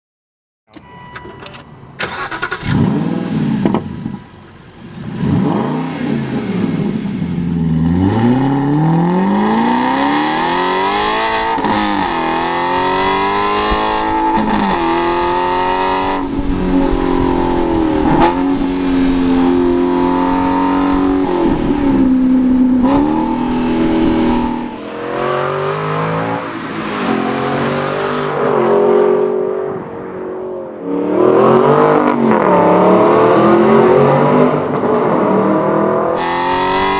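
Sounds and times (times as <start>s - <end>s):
car engine revving and accelerating: 1.8s - 36.9s.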